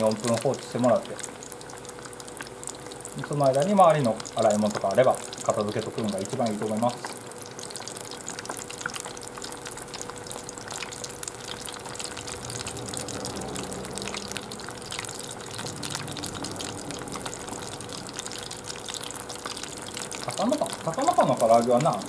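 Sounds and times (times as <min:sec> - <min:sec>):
fish deep-frying in oil: 0:00.0 - 0:22.0.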